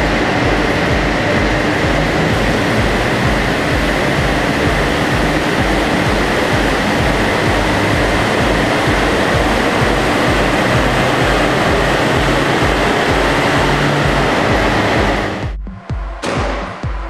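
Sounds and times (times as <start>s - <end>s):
diesel engine running under load: 0.0s - 15.6s.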